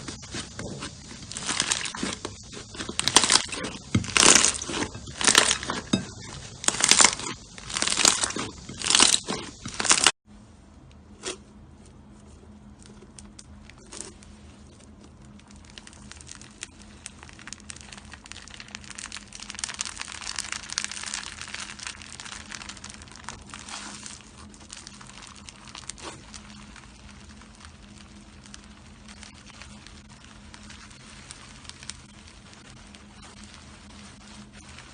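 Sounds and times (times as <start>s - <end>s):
slime crackling and popping: 0.0s - 10.2s, 12.8s - 34.9s
faint steady hum: 0.0s - 34.9s.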